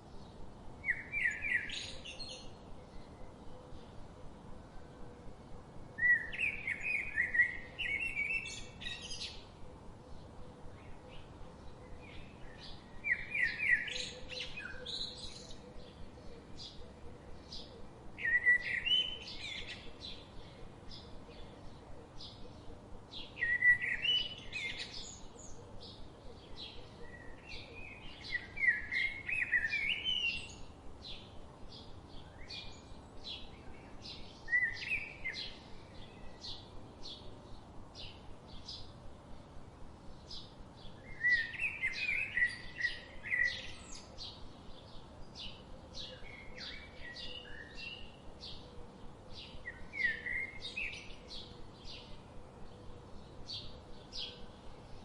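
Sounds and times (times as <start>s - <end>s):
bird warbling song: 0.1s - 4.0s, 6.0s - 39.0s, 40.1s - 55.0s.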